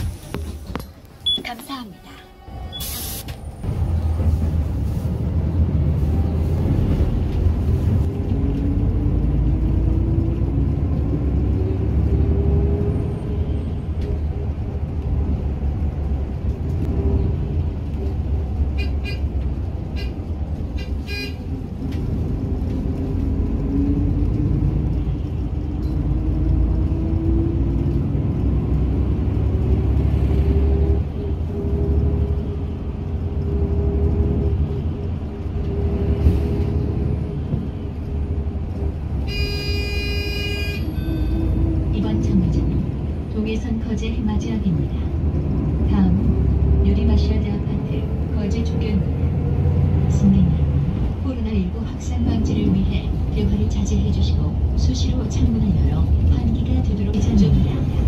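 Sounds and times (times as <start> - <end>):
bus engine rumbling: 0.0 - 58.0.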